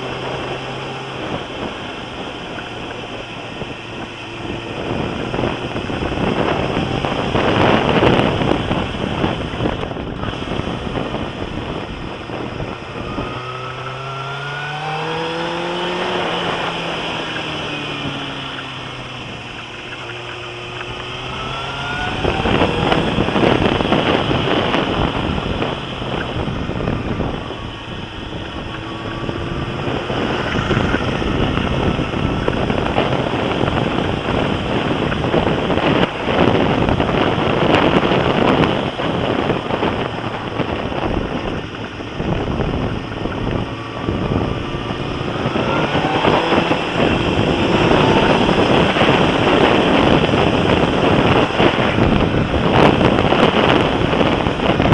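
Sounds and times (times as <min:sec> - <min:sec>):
motorcycle engine revving: 0:00.0 - 0:54.9
wind noise on microphone: 0:00.0 - 0:54.9.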